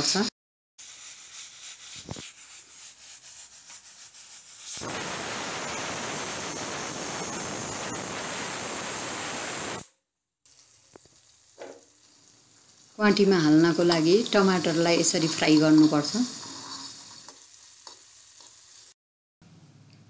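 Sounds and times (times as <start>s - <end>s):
pressure cooker steam hiss: 0.8s - 9.9s, 10.5s - 19.0s.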